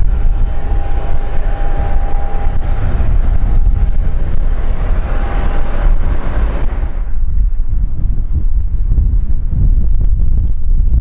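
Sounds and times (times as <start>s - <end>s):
jet engines whining: 0.0s - 8.9s
wind buffeting microphone: 0.0s - 11.0s.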